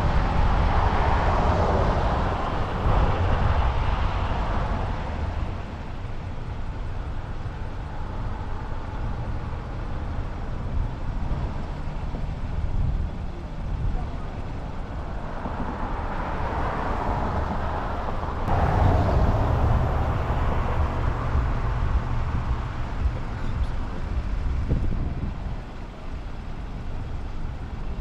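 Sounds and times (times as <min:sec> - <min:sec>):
motorcycle road noise: 0:00.0 - 0:28.0
wind rushing over microphone: 0:00.0 - 0:28.0.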